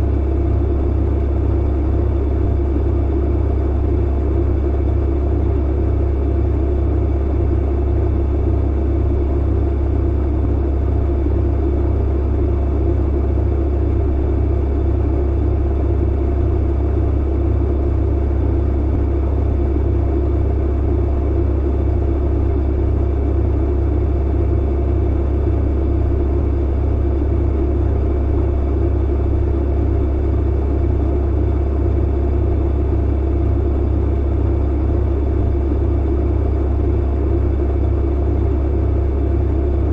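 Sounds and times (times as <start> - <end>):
tumbling drum rumble: 0.0 - 39.9.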